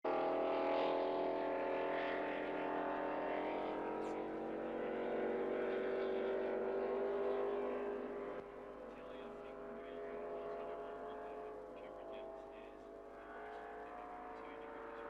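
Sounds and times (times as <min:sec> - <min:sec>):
racing boat engine running: 0:00.1 - 0:15.0.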